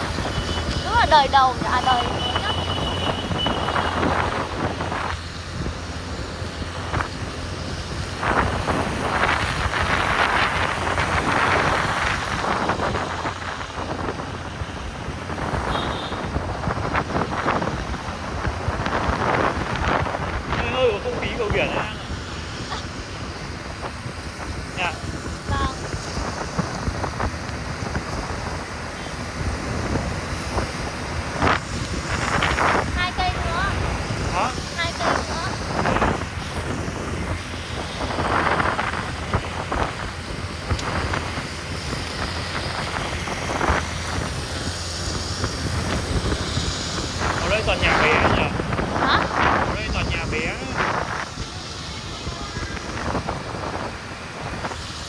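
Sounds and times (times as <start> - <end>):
motorbike ride rumble: 0.0 - 55.0
road and traffic noise: 0.0 - 55.0
wind buffeting microphone: 0.0 - 55.0.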